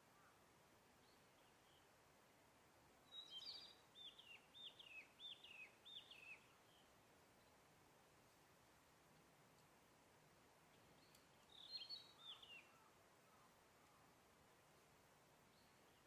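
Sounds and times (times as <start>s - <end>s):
faint background hiss: 0.0s - 16.0s
songbird singing: 0.0s - 16.0s.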